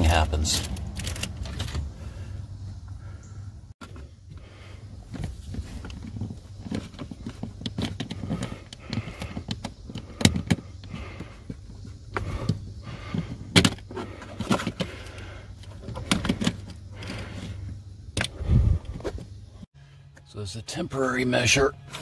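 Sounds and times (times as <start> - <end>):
steady low hum: 0.1 - 22.0.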